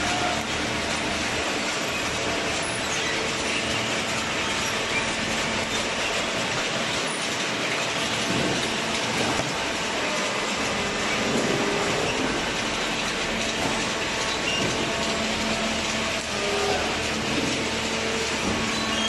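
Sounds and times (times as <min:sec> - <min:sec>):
cardboard baler running: 0:00.0 - 0:19.0.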